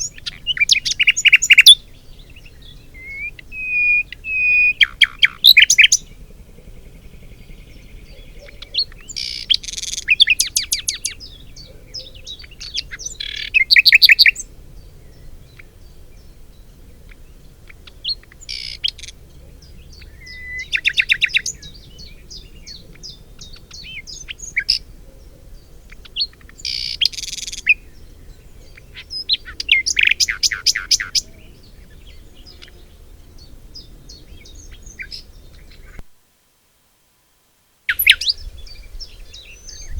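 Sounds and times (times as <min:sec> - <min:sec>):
songbird trilling: 0:00.0 - 0:36.0, 0:37.9 - 0:39.9.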